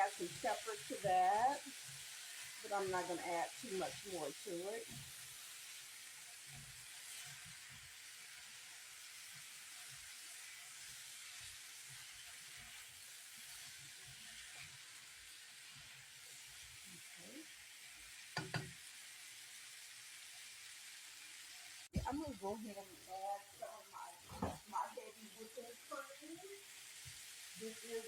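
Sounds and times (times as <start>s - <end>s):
food sizzling in a pan: 0.0s - 28.0s.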